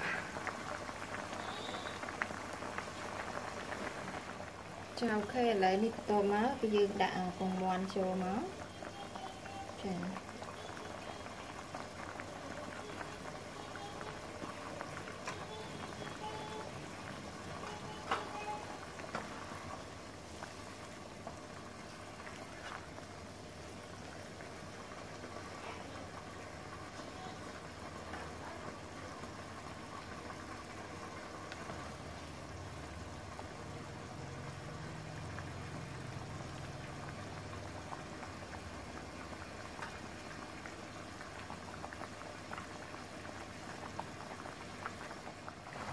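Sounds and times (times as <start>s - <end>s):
liquid bubbling in a pan: 0.0s - 45.9s.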